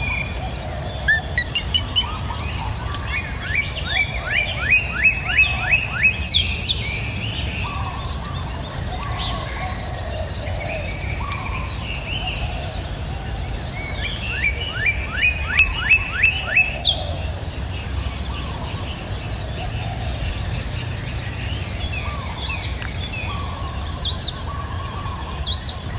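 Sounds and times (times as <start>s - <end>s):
bird singing rising chirps: 0.0s - 25.9s
soft bird calls: 0.0s - 25.9s.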